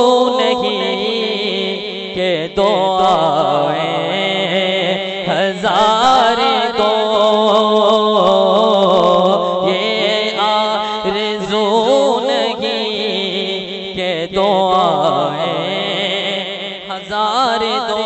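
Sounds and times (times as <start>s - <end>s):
man chanting without words: 0.0s - 18.0s.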